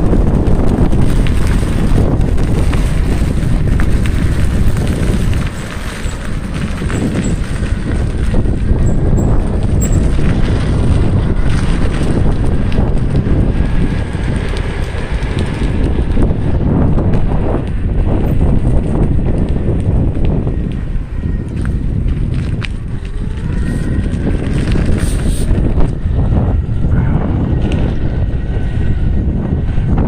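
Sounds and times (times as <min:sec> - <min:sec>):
skateboard tyres rumbling on asphalt: 0:00.0 - 0:30.0
wind buffeting microphone: 0:00.0 - 0:30.0.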